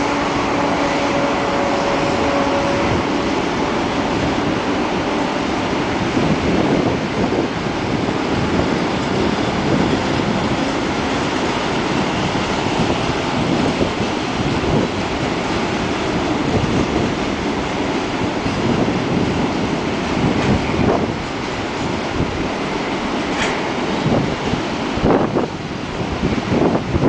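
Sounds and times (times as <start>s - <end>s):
train wheels on rail: 0.0s - 27.0s.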